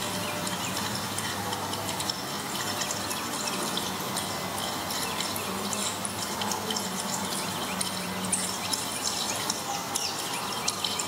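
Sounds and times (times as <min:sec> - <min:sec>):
small water splashes: 0:00.0 - 0:11.0
water trickling and dripping: 0:00.0 - 0:11.0.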